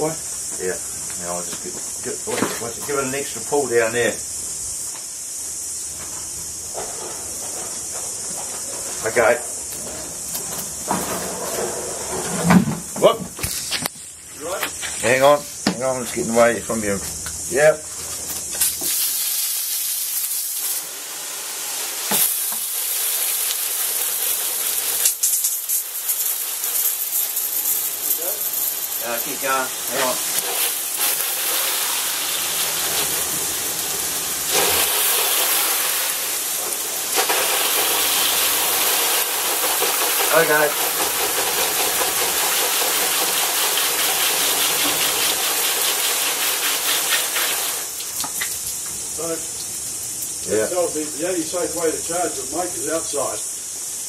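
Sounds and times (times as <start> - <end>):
hose spraying water: 0.0 - 54.0.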